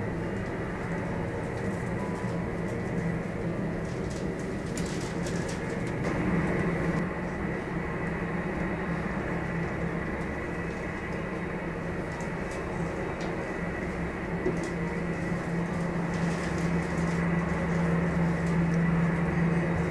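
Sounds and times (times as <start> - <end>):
jet engines idling: 0.0 - 19.9.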